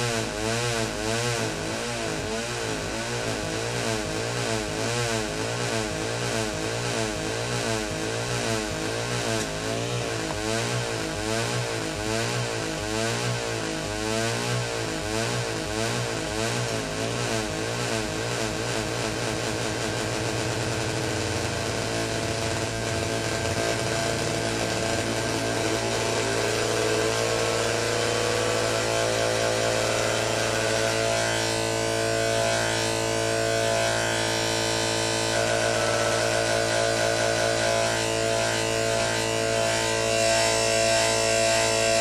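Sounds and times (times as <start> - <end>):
buzzy synthesizer drone: 0.0 - 42.0.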